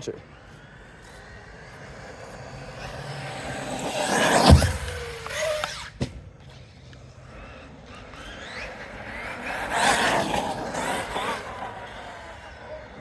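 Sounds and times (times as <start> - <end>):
electric toy truck motor whine: 0.0 - 13.0.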